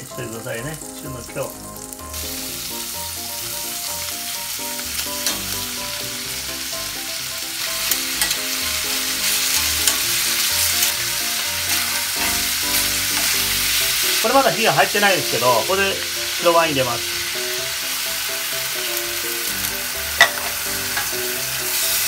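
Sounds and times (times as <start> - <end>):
meat sizzling in butter: 0.0 - 22.0.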